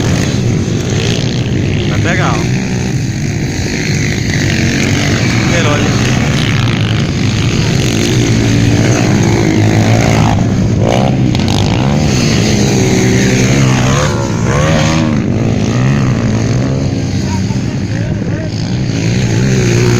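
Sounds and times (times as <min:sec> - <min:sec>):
motocross bikes racing: 0:00.0 - 0:19.9.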